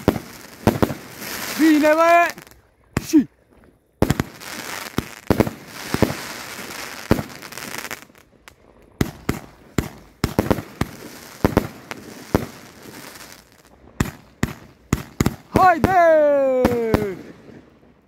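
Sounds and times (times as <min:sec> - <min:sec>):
firework bangs: 0:00.0 - 0:03.1, 0:04.0 - 0:08.3, 0:09.0 - 0:17.8
firework crackling hiss: 0:00.0 - 0:03.2, 0:04.0 - 0:08.3, 0:09.0 - 0:17.4.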